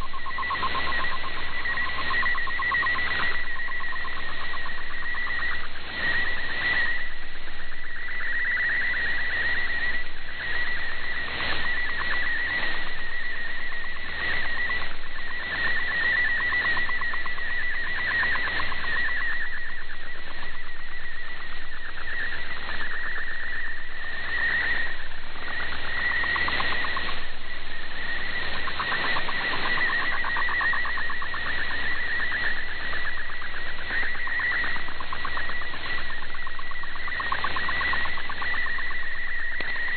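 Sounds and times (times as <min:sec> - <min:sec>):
digital data signal warble: 0:00.0 - 0:39.9
radio static: 0:00.0 - 0:39.9.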